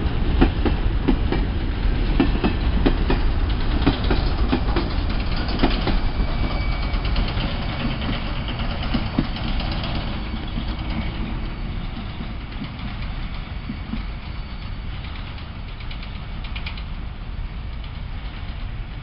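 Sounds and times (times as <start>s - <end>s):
freight train rumbling past: 0.0s - 19.0s
steel wheels clattering on rails: 0.3s - 18.8s.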